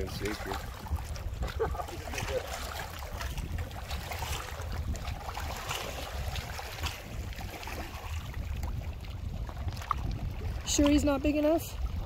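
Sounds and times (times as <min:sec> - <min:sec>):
steady low rumble: 0:00.0 - 0:12.0
waves lapping on rocky shore: 0:00.0 - 0:12.0.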